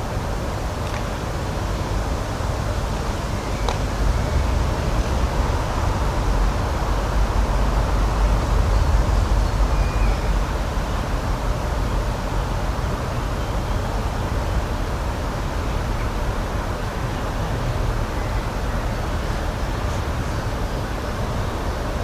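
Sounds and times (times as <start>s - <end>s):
low rumble with hiss: 0.0s - 22.0s.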